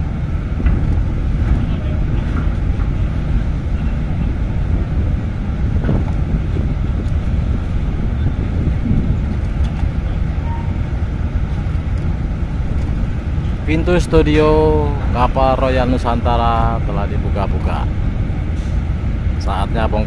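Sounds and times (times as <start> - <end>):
low rumble: 0.0 - 20.0
wind buffeting microphone: 0.0 - 20.0.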